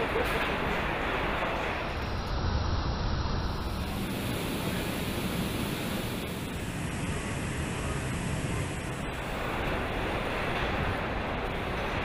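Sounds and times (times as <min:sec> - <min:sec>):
factory ambience rushing noise: 0:00.0 - 0:12.0.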